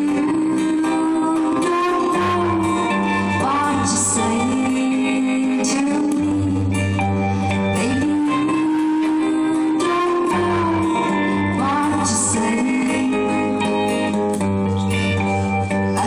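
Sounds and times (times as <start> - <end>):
guitar accompaniment: 0.0 - 16.0
woman singing: 0.0 - 16.0.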